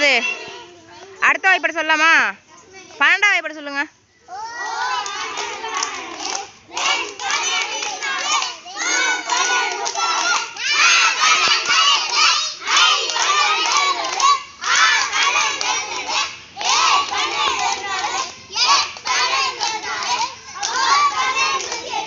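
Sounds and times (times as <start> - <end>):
children chanting in unison: 4.3 - 22.0.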